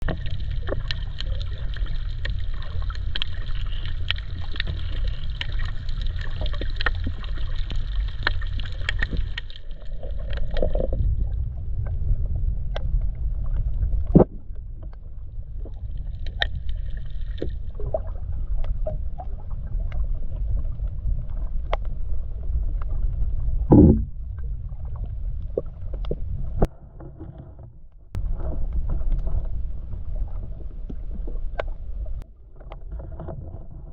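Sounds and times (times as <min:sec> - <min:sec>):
steady low rumble: 0:00.0 - 0:32.6.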